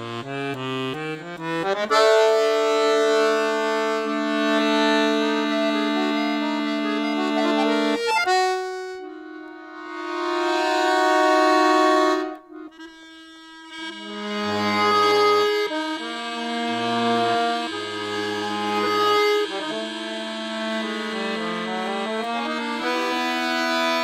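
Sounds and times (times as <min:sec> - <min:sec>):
accordion chords: 0:00.0 - 0:24.0.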